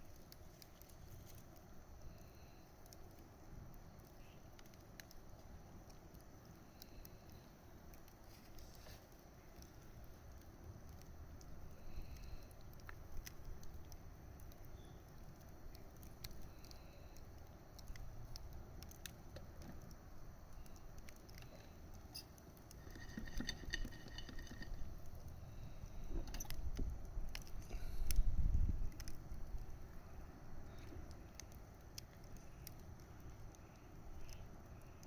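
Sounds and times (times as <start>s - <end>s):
fire popping and snapping: 0.0s - 35.0s
wood fire crackling: 0.0s - 35.0s.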